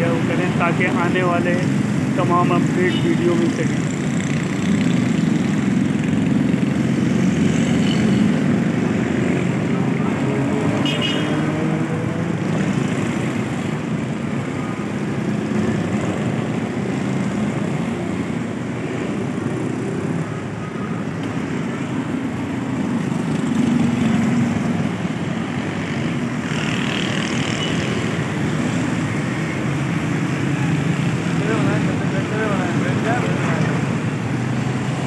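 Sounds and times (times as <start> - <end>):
street noise: 0.0 - 35.0.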